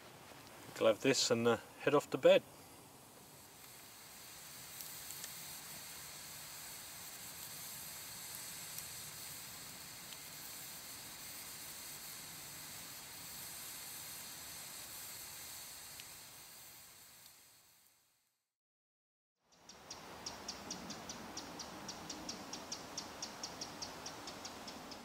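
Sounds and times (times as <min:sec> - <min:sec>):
campfire hissing and crackling: 0:00.0 - 0:18.4, 0:19.7 - 0:25.0.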